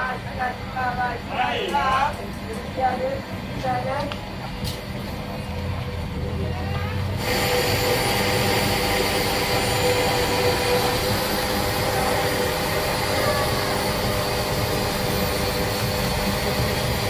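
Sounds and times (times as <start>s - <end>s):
crowd hubbub: 0.0s - 16.1s.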